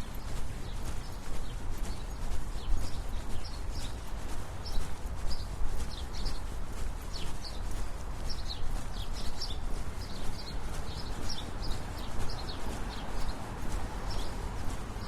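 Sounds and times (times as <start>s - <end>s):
footsteps on pavement: 0.0s - 15.0s
small birds chirping: 0.0s - 15.0s.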